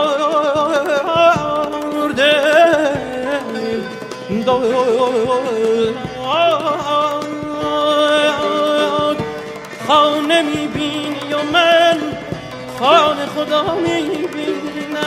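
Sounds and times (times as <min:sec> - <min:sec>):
hand drum strokes: 0:00.0 - 0:15.0
ornamented melody line: 0:00.0 - 0:15.0.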